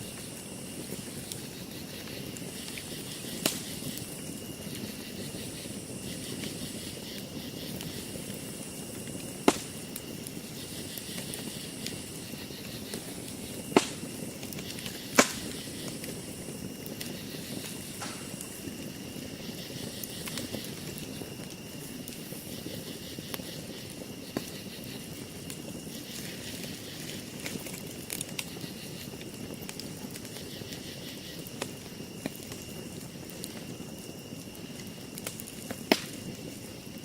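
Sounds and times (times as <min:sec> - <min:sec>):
campfire crackling: 0:00.0 - 0:37.0
sharp pops from burning wood: 0:00.0 - 0:37.0.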